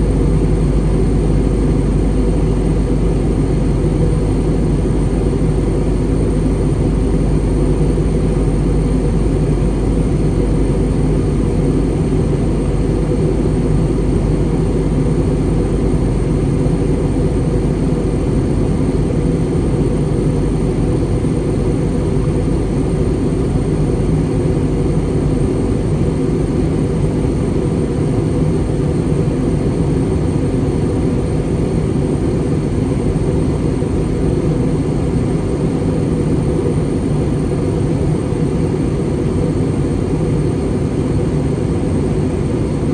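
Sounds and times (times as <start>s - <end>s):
airplane cabin rumble: 0.0s - 42.9s.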